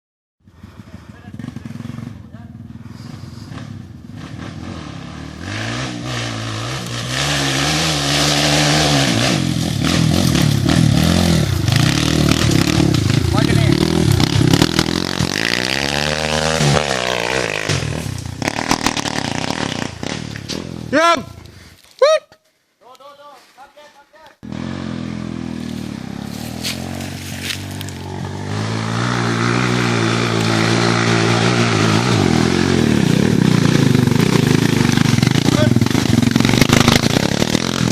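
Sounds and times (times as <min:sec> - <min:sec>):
dirt bike engine revving: 0:00.5 - 0:21.5, 0:24.4 - 0:37.9.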